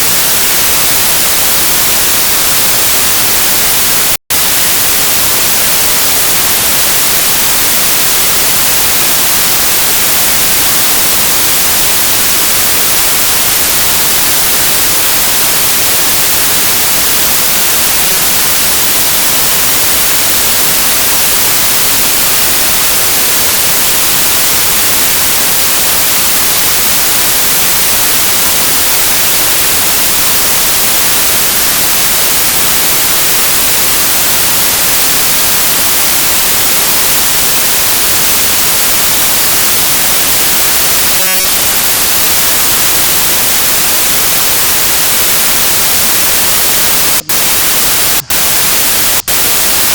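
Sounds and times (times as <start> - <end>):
static hiss: 0.0 - 49.9.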